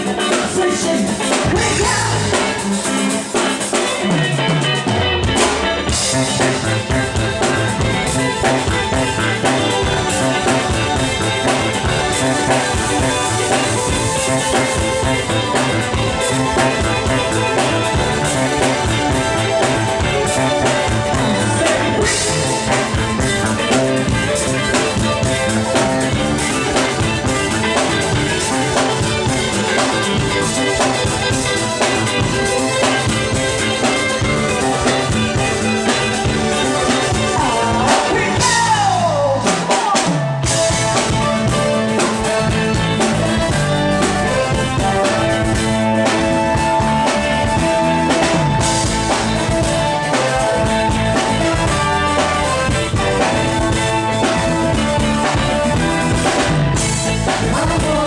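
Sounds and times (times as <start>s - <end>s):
drum kit: 0.0s - 58.0s
electric bass: 0.0s - 58.0s.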